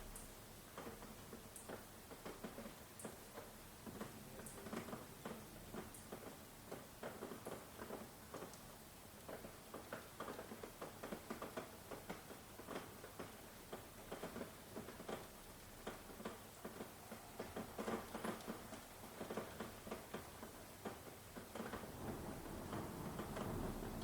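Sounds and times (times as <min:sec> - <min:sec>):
raindrops ticking: 0:00.0 - 0:24.0
soft steady rain hiss: 0:00.0 - 0:24.0.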